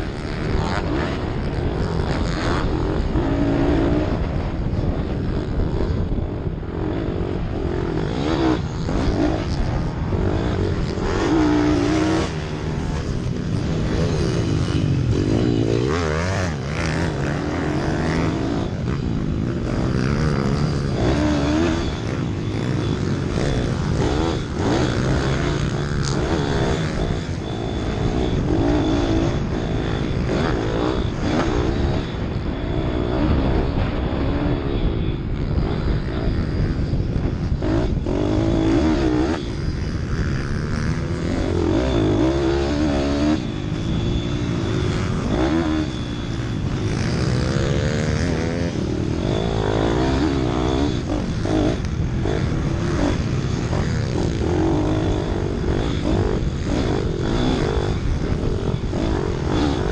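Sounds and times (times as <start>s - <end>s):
minibike engine revving: 0.0s - 59.9s.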